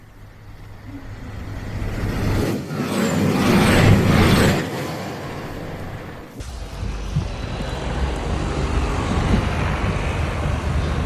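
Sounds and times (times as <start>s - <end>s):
vehicle passing by: 1.1s - 11.0s.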